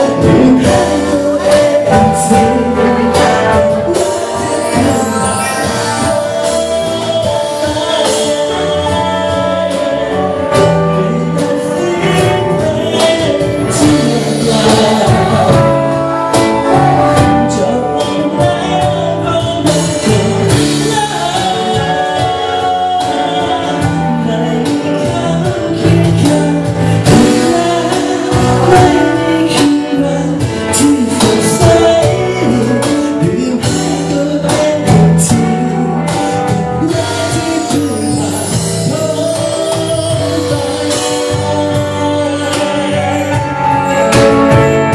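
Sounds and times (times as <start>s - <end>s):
live band playing: 0.0s - 44.9s
man singing into microphone: 0.0s - 44.9s.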